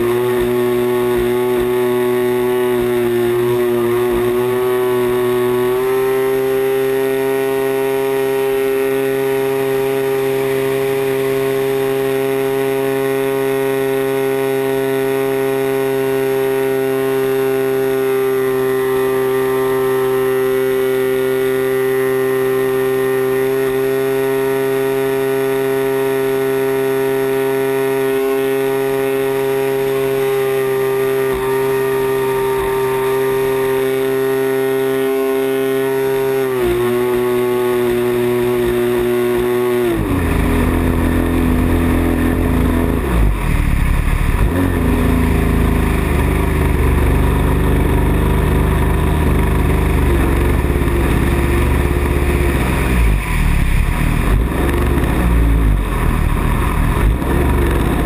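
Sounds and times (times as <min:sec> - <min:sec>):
model plane engine running: 0:00.0 - 0:58.0.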